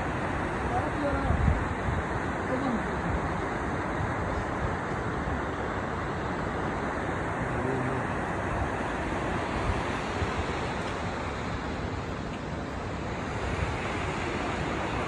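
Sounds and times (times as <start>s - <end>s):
rushing mountain river: 0.0s - 15.0s.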